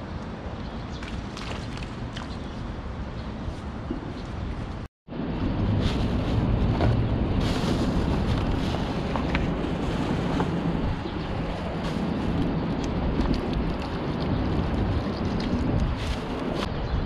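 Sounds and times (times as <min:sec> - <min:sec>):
wind buffeting microphone: 0:00.9 - 0:17.0.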